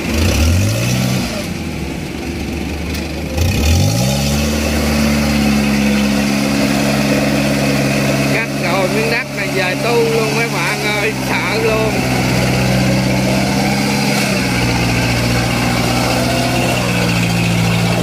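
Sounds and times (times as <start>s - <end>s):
tractor engine revving: 0.0s - 18.0s.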